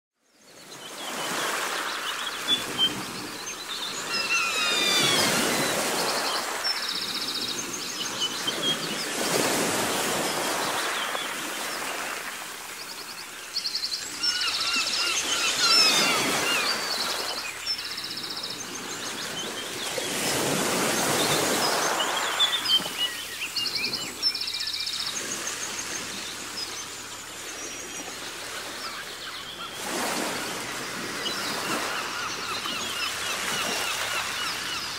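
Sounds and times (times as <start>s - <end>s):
birds chirping and trilling: 0.4s - 34.9s
waves washing in: 0.9s - 34.9s.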